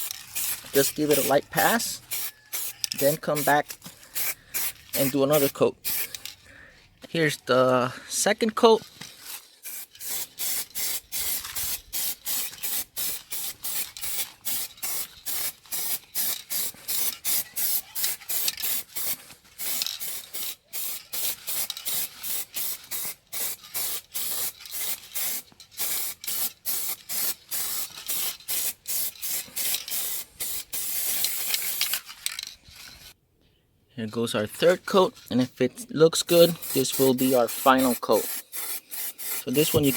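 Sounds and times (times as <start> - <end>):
spray paint can hissing: 0.0 - 6.4, 9.2 - 32.0, 36.2 - 39.9.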